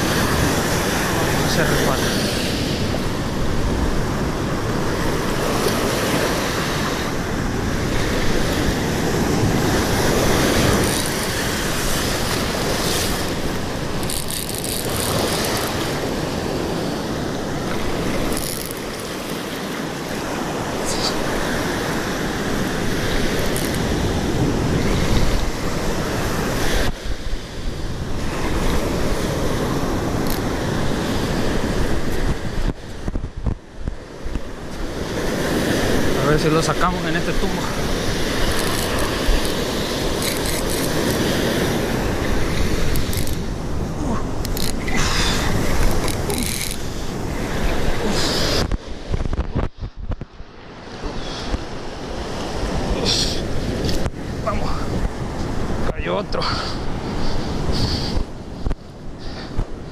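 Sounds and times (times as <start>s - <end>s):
surf breaking on beach: 0.0s - 34.0s, 34.6s - 59.9s
wind buffeting microphone: 0.0s - 36.8s, 37.4s - 59.9s.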